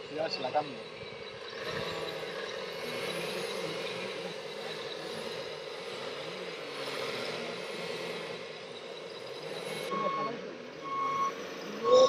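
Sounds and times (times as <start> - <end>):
model trucks mechanical hum: 0.0 - 12.0.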